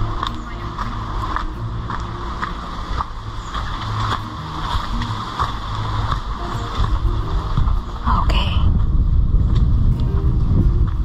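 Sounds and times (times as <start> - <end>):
footsteps on dirt path: 0.0 - 11.0
wind rumble on microphone: 0.0 - 11.0.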